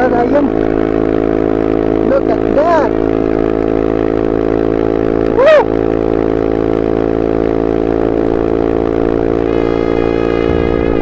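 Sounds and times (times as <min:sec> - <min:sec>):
scooter engine pulling hard: 0:00.0 - 0:11.0.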